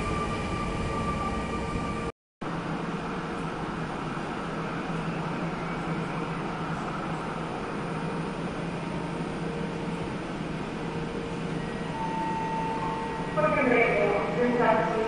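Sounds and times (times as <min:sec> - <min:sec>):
electric locomotive hum: 0:00.0 - 0:15.0.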